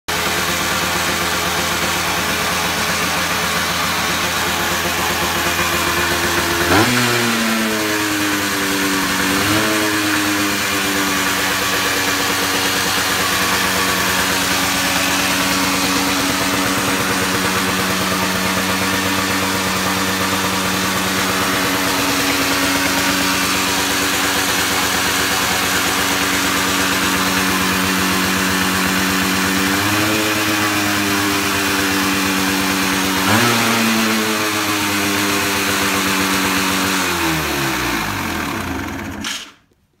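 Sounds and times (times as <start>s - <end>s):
motorcycle engine idling and revving: 0.0s - 39.6s.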